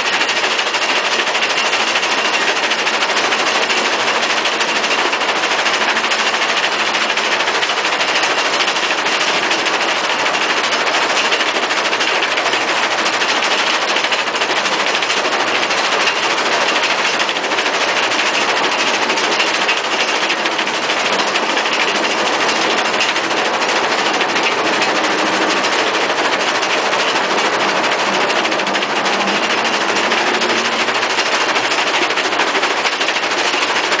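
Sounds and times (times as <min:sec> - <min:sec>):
asphalt rattling on vibrating screen: 0:00.0 - 0:34.0.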